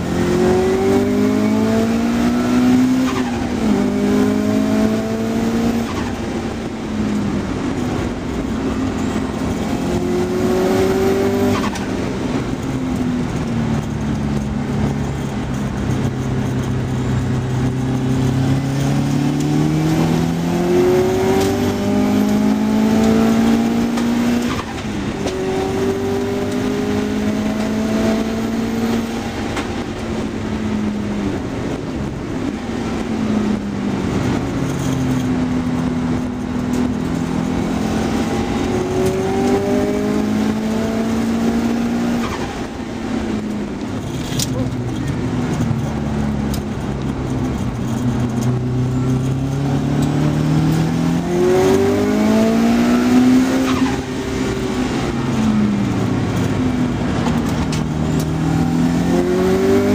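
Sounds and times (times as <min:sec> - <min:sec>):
car engine revving hard: 0:00.0 - 0:12.4, 0:14.4 - 0:34.5, 0:36.1 - 0:59.9
wind and tyre noise: 0:00.0 - 0:59.9.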